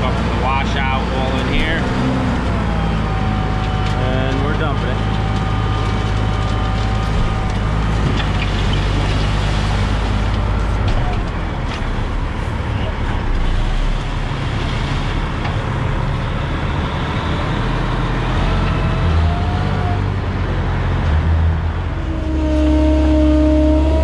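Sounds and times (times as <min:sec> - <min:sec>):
truck engine humming: 0:00.0 - 0:24.0.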